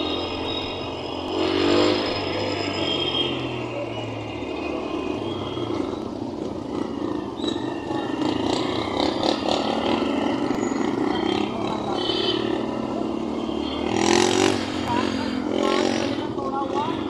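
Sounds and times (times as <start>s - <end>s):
motorcycle engine running: 0.0s - 17.0s
passing traffic: 0.0s - 17.0s
road noise: 0.0s - 17.0s.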